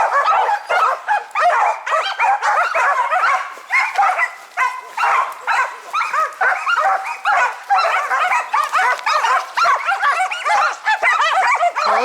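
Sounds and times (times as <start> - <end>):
dogs barking rapidly: 0.0 - 12.0.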